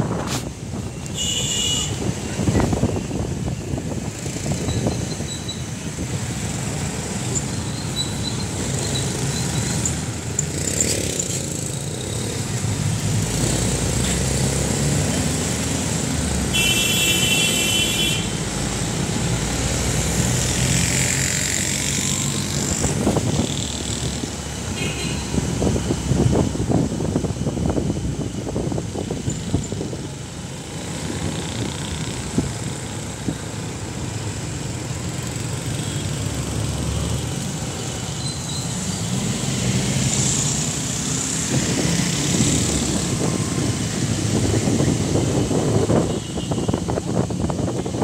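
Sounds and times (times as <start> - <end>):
vehicle engine and road noise: 0.0 - 48.0.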